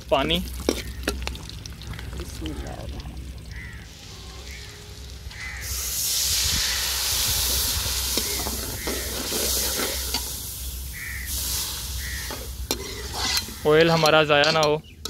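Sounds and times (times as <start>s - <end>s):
water sizzling in hot oil: 0.0s - 14.6s.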